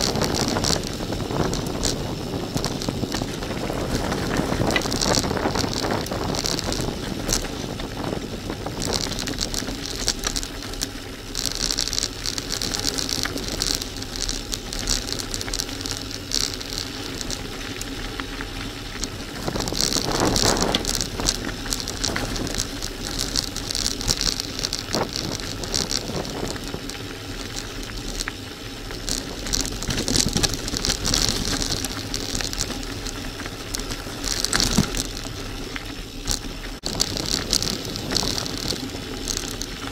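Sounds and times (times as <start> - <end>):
bicycle tyres crunching on gravel: 0.0 - 39.9
bike rattling: 0.0 - 39.9.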